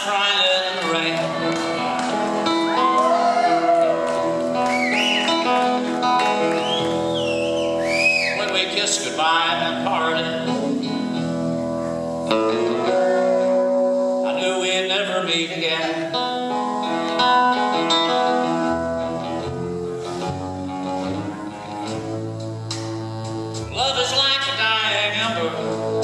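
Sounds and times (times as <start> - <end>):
plucked guitar melody: 0.0 - 26.0.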